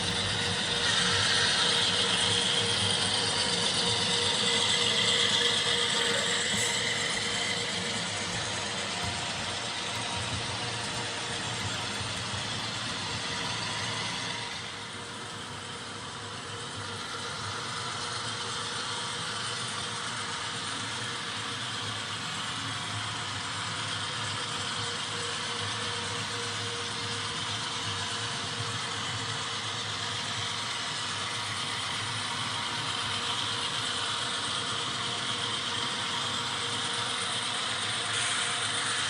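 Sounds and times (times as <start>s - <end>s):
model train running: 0.0s - 39.0s.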